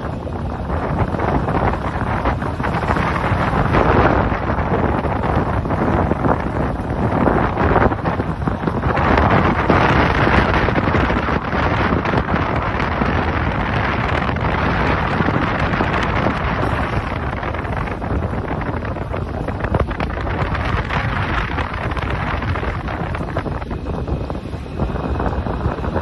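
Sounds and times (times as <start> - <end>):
sea water rushing along boat: 0.0 - 26.0
wind buffeting microphone: 0.0 - 26.0.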